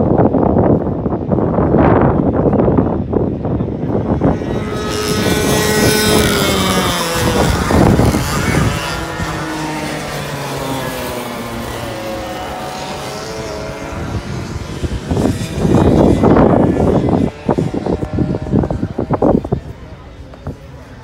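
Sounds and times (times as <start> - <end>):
wind buffeting microphone: 0.0 - 21.0
kart engines whining past: 3.1 - 21.0.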